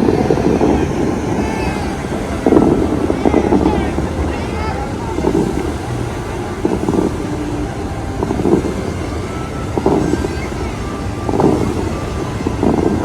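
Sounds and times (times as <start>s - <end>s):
indistinct voices: 0.0s - 13.0s
low rumble of traffic: 0.0s - 13.0s
wind on microphone: 0.0s - 13.0s.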